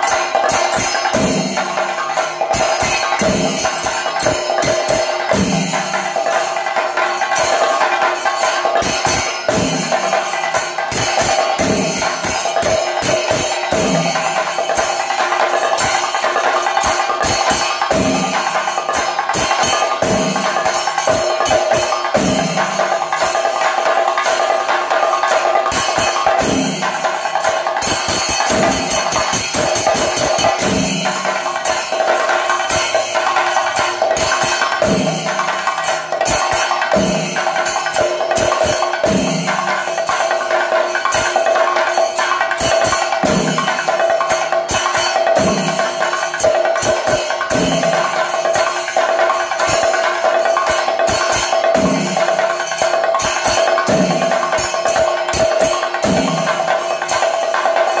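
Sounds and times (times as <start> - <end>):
clashing cymbals: 0.0 - 58.0.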